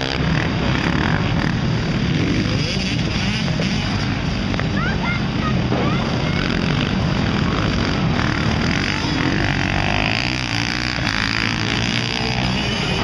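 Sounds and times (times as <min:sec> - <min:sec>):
motorcycles racing past revving: 0:00.0 - 0:13.0.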